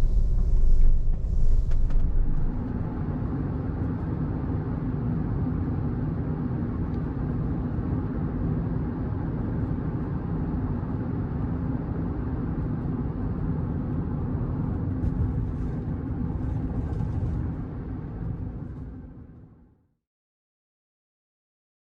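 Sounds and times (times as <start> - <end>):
car engine and road noise: 0.0 - 19.4.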